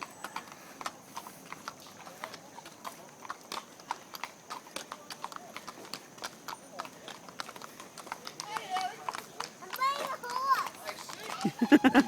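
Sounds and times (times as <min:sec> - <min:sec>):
hooves clip-clopping on hard ground: 0:00.0 - 0:12.0.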